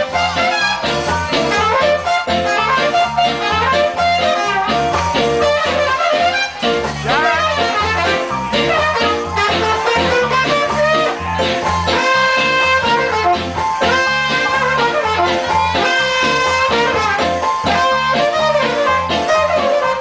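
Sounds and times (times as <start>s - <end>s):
pulsing bass line: 0.0s - 20.0s
steady drum beat: 0.0s - 20.0s
trumpet and saxophone melody: 0.0s - 20.0s.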